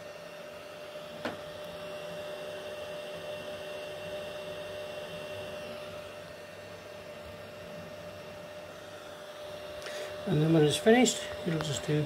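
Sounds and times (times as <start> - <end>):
printer machine hum: 0.0 - 12.0.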